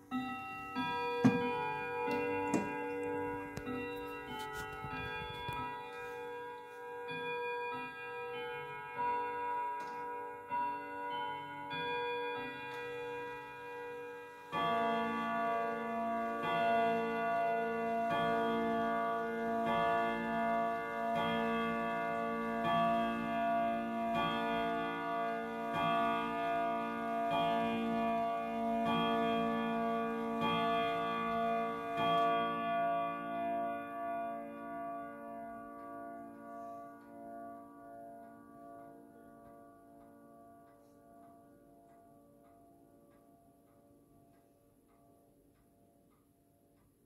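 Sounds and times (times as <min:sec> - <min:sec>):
clock chime melody: 0:00.0 - 0:47.0
clock hour strikes: 0:00.0 - 0:47.0.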